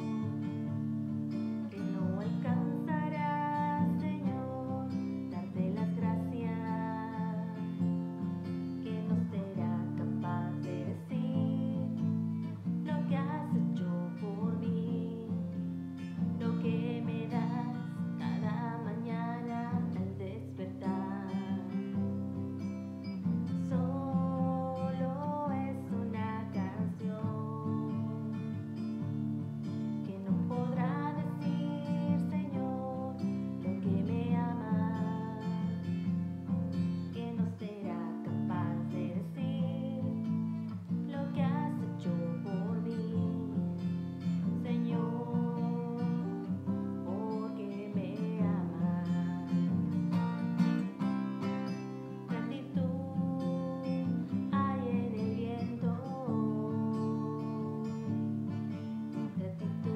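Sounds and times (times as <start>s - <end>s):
acoustic guitar strumming: 0.0s - 59.9s
woman singing: 0.0s - 59.9s.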